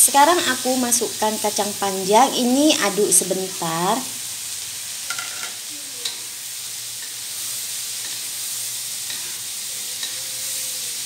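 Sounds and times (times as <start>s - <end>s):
beans sizzling in oil: 0.0s - 11.0s.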